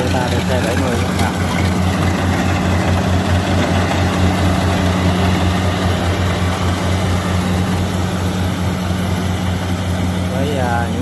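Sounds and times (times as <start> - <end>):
diesel engine throbbing: 0.0 - 11.0.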